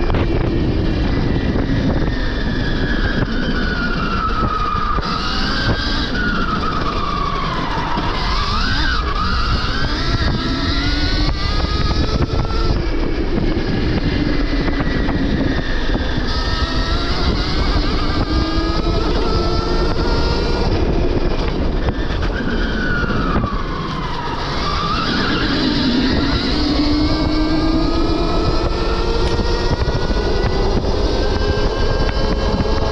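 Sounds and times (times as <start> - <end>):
electric motorbike motor whining: 0.0 - 32.9
wind rush: 0.0 - 32.9.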